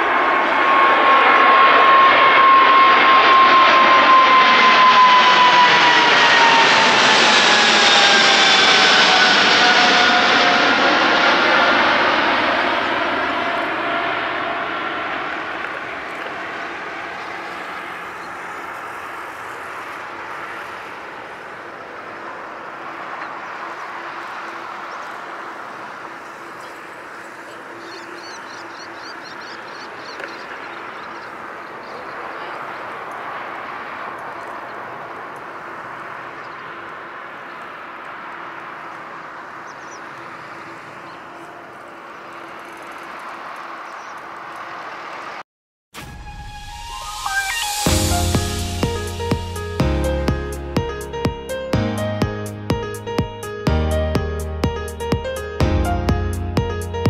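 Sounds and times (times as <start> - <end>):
distant jet engines roaring: 0.0 - 45.4, 46.0 - 57.0.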